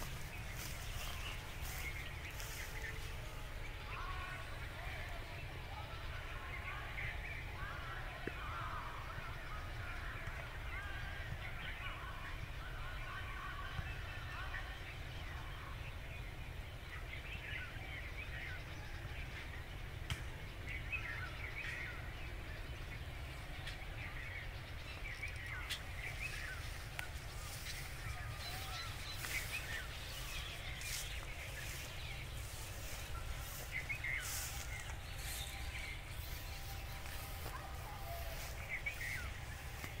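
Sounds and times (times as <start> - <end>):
birds chirping and warbling: 0.0 - 40.0.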